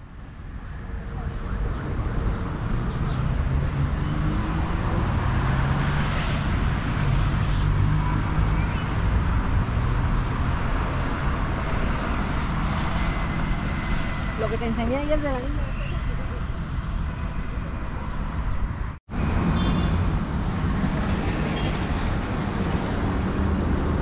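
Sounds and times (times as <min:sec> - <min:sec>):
cars passing: 0:00.0 - 0:24.0.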